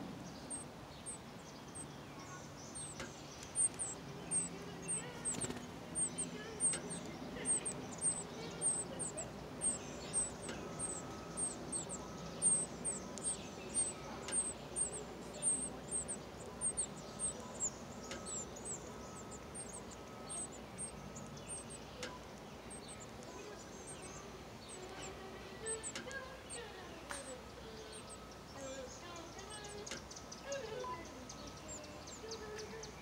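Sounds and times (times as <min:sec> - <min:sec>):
nestling birds chirping: 0:00.0 - 0:33.0.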